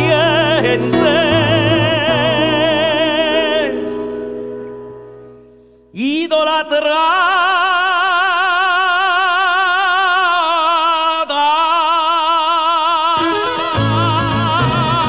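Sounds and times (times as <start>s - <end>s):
man singing a long high note: 0.0s - 4.5s, 5.9s - 15.0s.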